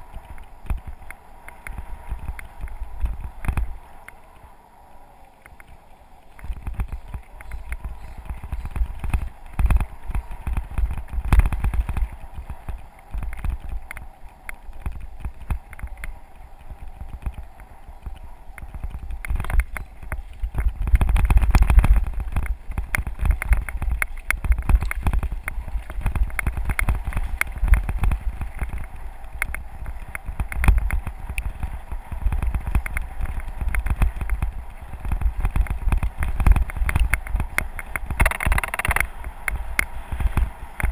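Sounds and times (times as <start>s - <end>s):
bike rattling over bumps: 0.0s - 4.6s, 5.5s - 40.9s
bike tyres rumbling on gravel: 0.0s - 40.9s.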